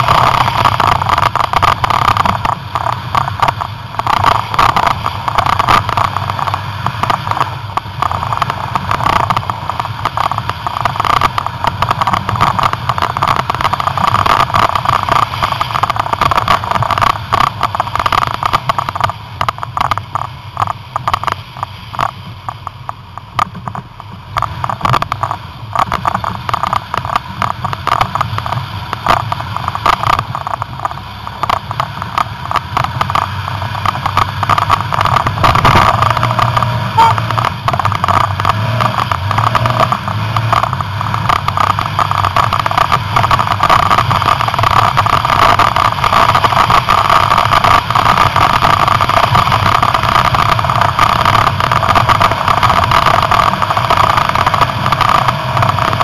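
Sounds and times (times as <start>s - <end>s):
car engine running: 0.0s - 56.0s
snow crunching and knocking: 0.0s - 56.0s.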